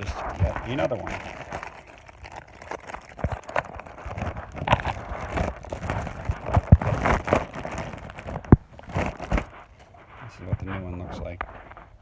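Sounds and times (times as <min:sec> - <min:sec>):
packaging rustling: 0:00.0 - 0:09.9.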